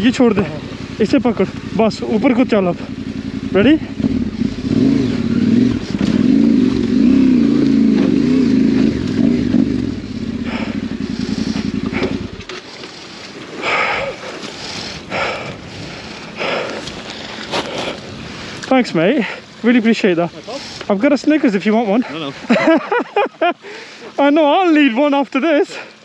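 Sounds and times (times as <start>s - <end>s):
motorcycle engine revving: 0.0s - 23.2s.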